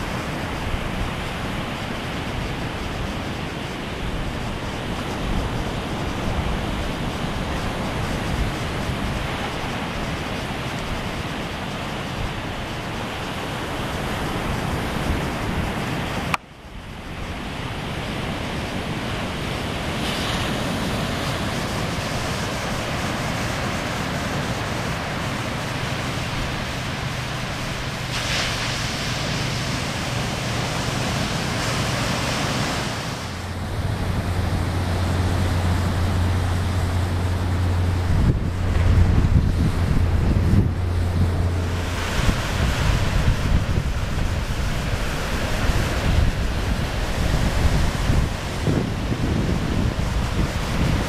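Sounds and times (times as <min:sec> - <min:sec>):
low wind rumble: 0:00.0 - 0:51.0
ocean surf breaking on beach: 0:00.0 - 0:51.0
wind on microphone: 0:00.0 - 0:51.0.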